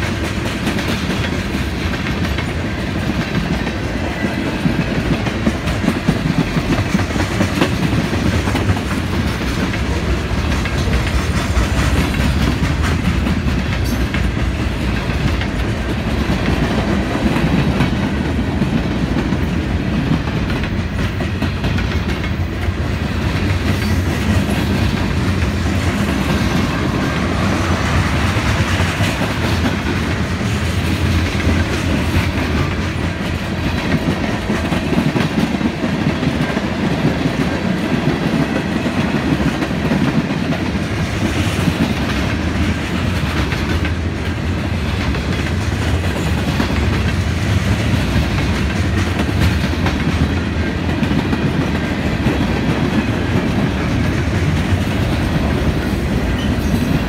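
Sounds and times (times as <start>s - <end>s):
freight train rumble: 0.0s - 57.0s.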